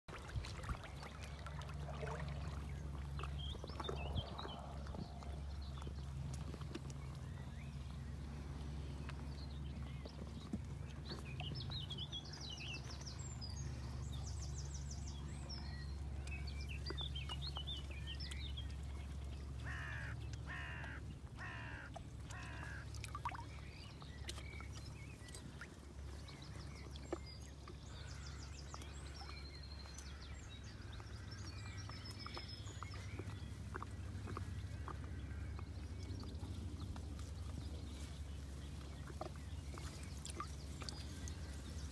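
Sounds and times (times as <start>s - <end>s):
songbirds trilling and chirping: 0.2s - 41.9s.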